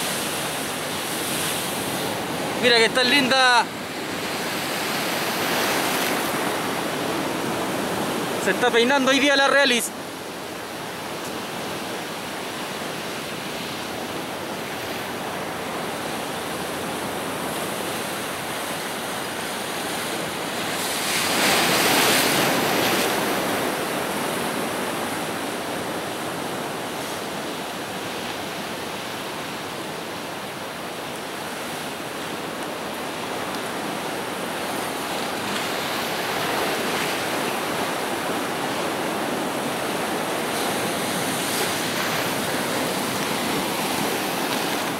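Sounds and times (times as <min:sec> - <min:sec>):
ocean surf breaking on rocks: 0:00.0 - 0:44.9.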